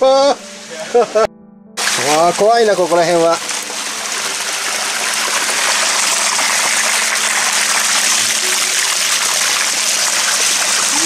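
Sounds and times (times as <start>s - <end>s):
water running over rocks: 1.8s - 11.0s.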